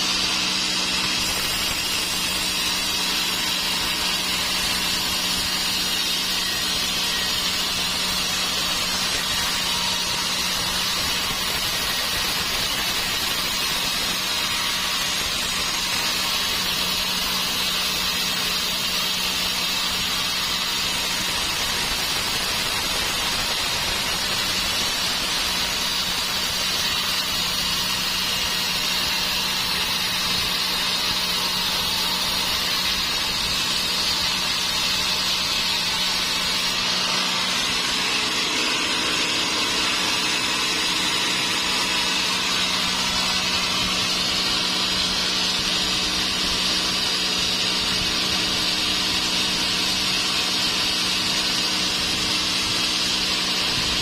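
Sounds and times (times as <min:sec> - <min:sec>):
sawmill saw hissing: 0:00.0 - 0:54.0.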